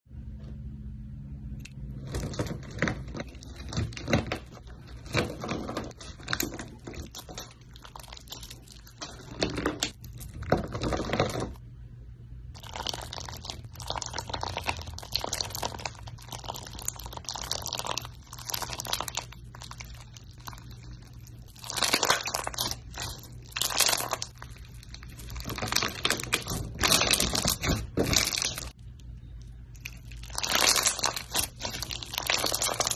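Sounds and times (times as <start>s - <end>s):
slime squishing and squelching: 1.6s - 11.6s, 12.5s - 32.9s.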